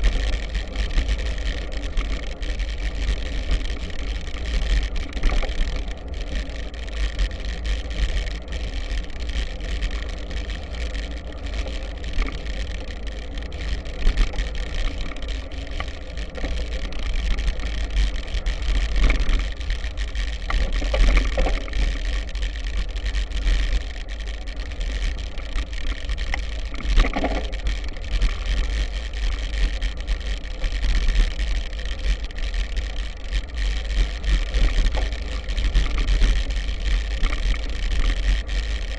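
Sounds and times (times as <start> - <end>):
bike clicks and rattles: 0.0 - 38.9.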